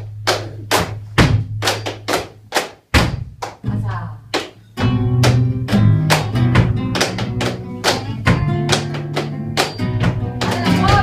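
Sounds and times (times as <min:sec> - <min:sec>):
flamenco guitar music: 0:00.0 - 0:11.0.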